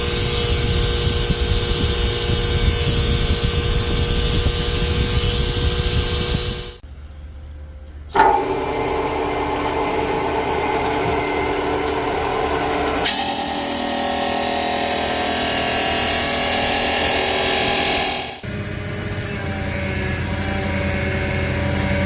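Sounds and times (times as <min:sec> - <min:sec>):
harsh hissy machine noise: 0:00.0 - 0:06.8, 0:08.1 - 0:22.0
machine whine: 0:00.0 - 0:07.3, 0:07.9 - 0:22.0.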